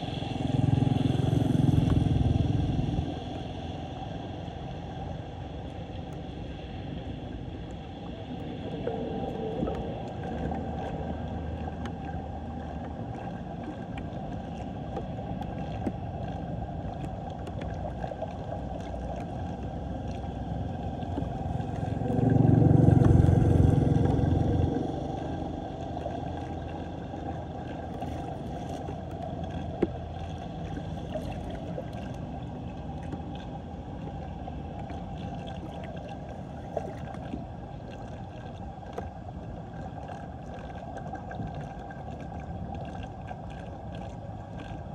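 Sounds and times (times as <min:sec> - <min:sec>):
low rumble: 0:00.0 - 0:44.9
water rushing down a drain: 0:07.7 - 0:44.9.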